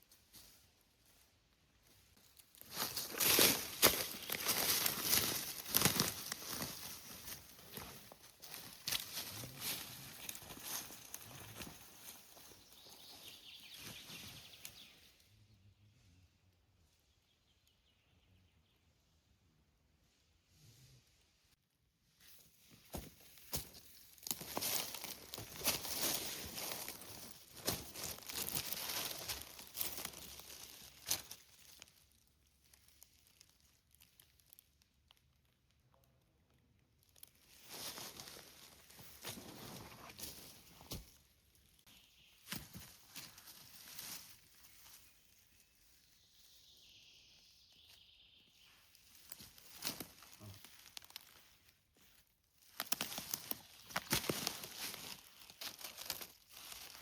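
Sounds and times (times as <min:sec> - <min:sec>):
rustling of forest litter: 0:00.0 - 0:15.2, 0:22.0 - 0:35.9, 0:36.5 - 0:57.0.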